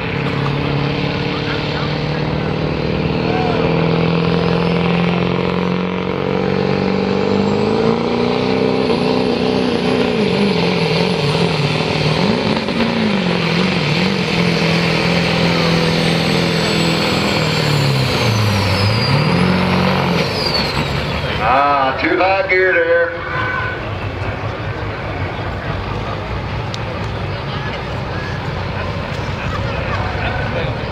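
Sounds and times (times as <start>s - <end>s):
diesel engine under load: 0.0s - 30.9s.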